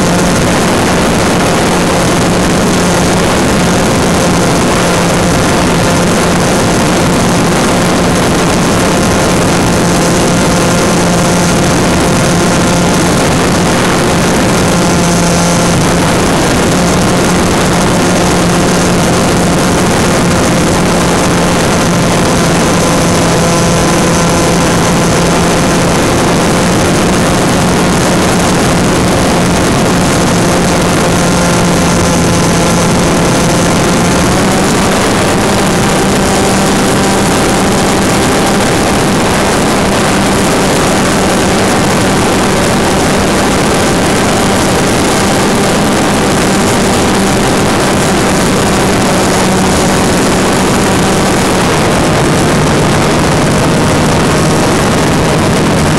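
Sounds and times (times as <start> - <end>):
electric motor whine: 0.0 - 55.9
wind rush: 0.0 - 55.9.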